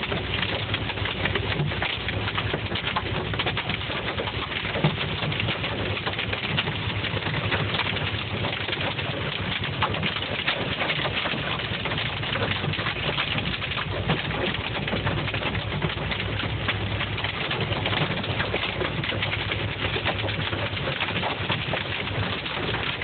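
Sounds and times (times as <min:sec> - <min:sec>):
car driving on highway: 0:00.0 - 0:23.0
hail drumming on car roof: 0:00.0 - 0:23.0.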